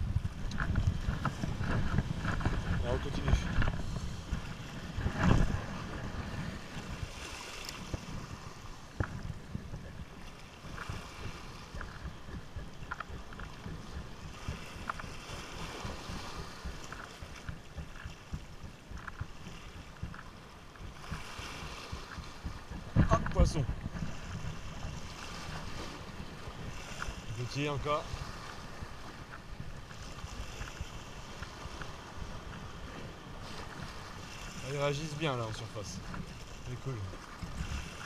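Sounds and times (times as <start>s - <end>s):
water lapping at shore: 0.0s - 38.0s
wind buffeting microphone: 0.0s - 38.0s.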